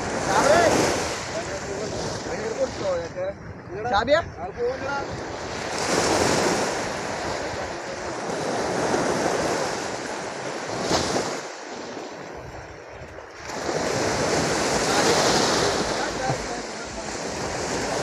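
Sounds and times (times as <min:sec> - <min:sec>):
sea waves breaking on a beach: 0:00.0 - 0:18.0.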